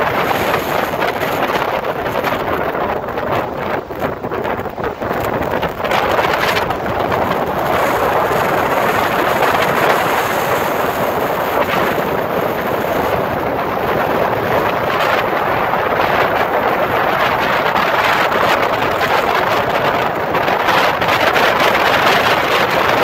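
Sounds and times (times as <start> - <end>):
strong wind buffeting microphone: 0.0 - 23.0
waves breaking on stony shore: 0.0 - 23.0.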